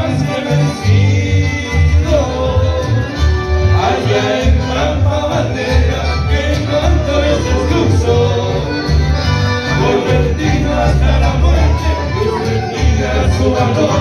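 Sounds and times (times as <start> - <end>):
live band playing dance music: 0.0 - 14.0
pulsing bass line: 0.0 - 14.0.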